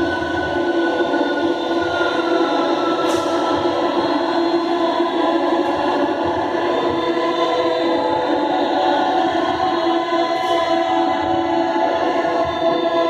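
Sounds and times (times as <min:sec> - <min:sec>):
choir-like voices holding chords: 0:00.0 - 0:13.0.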